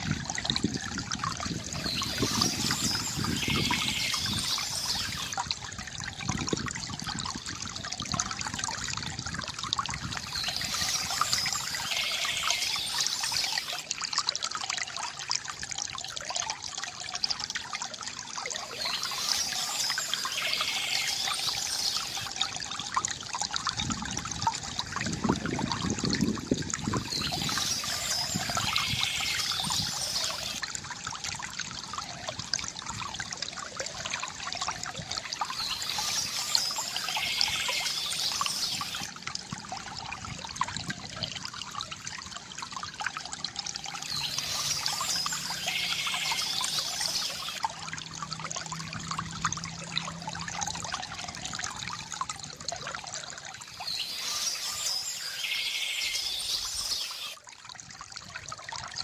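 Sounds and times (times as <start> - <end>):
water trickling from bamboo fountain: 0.0 - 59.0.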